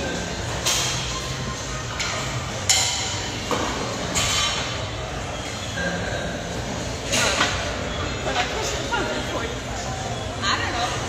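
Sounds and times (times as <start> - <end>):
busy gym din: 0.0 - 11.0.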